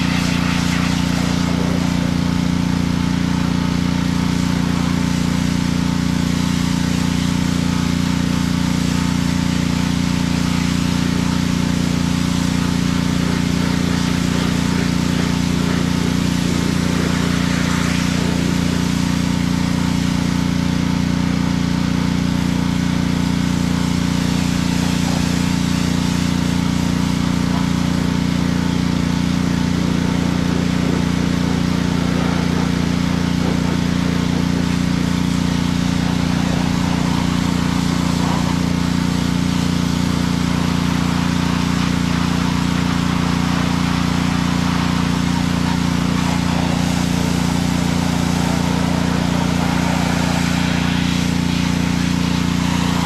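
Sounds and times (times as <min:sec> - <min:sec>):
pressure washer engine running: 0:00.0 - 0:53.0
water spraying from wand: 0:00.0 - 0:53.0.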